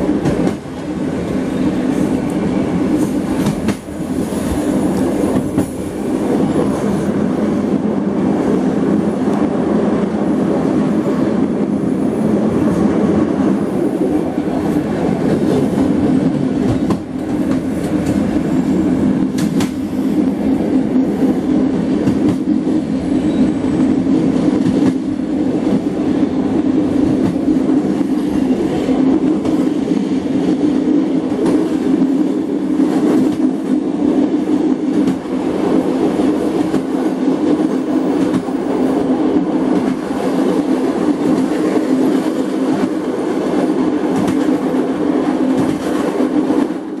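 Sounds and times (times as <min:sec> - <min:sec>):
train rumble with droning hum: 0:00.0 - 0:47.0.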